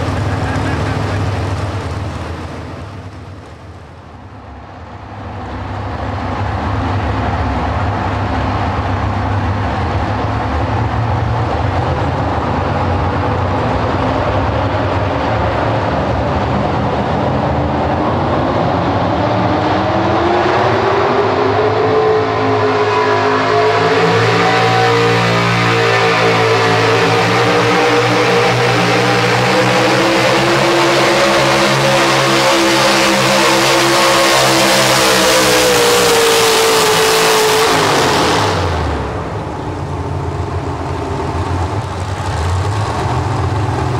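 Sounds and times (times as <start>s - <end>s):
truck engine running loud: 0.0s - 43.9s.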